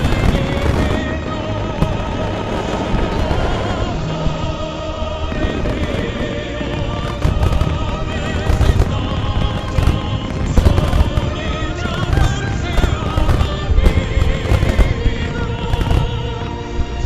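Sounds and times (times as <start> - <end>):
fireworks cracks and booms: 0.0 - 17.0
loud music: 0.0 - 17.0.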